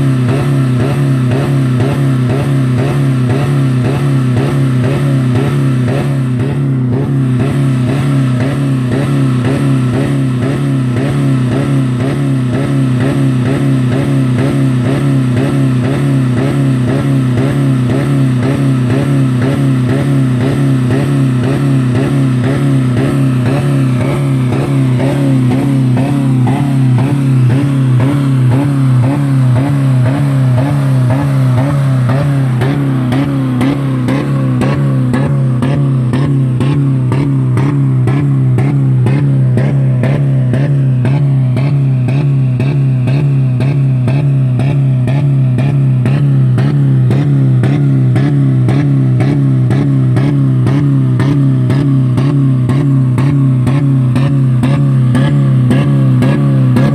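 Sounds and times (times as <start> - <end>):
car engine revving steadily: 0.0 - 56.9.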